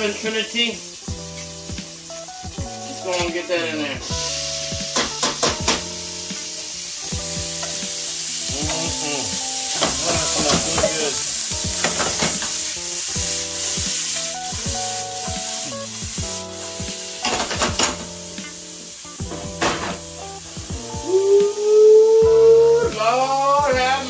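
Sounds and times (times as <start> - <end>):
music: 0.0 - 24.0
vegetables sizzling in grease: 0.0 - 24.0.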